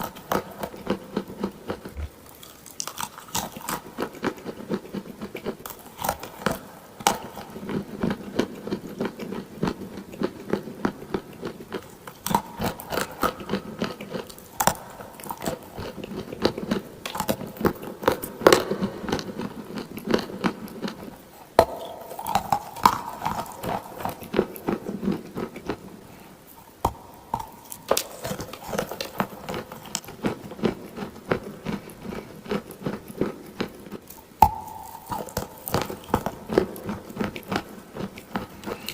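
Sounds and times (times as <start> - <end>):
crunchy biting and chewing: 0.0 - 38.9.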